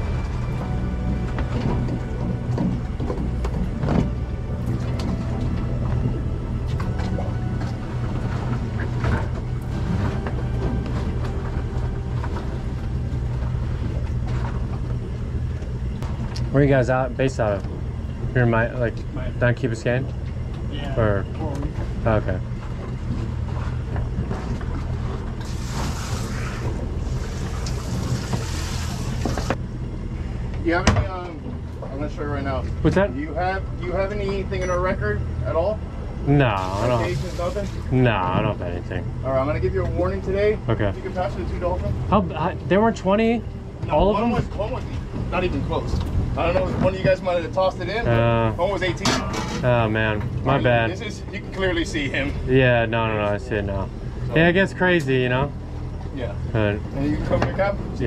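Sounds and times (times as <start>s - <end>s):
boat engines idling: 0.0s - 58.0s
water and wind noise: 0.0s - 58.0s.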